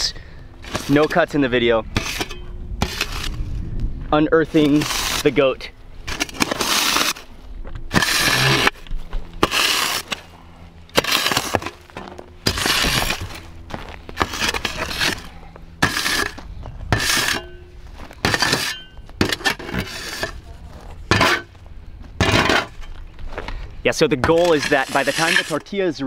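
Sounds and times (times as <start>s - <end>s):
shovel scraping and scooping earth: 0.0s - 3.6s, 4.4s - 21.6s, 22.2s - 23.4s, 24.0s - 25.9s.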